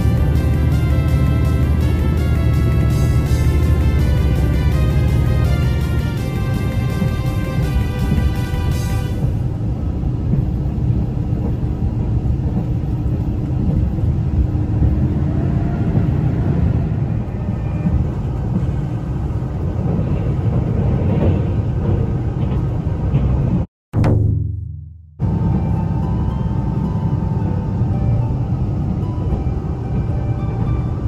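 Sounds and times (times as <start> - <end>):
railcar engine and wheels rumble: 0.0 - 23.7, 25.2 - 31.0.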